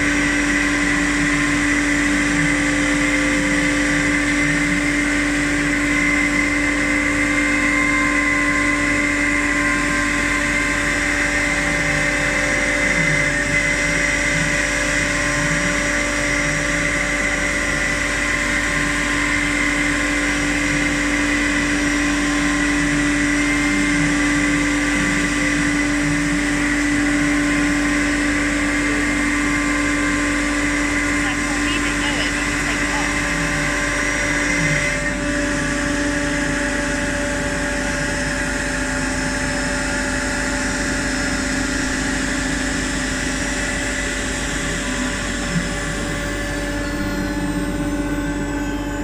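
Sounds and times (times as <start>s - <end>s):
router spindle hum and whine: 0.0s - 49.0s.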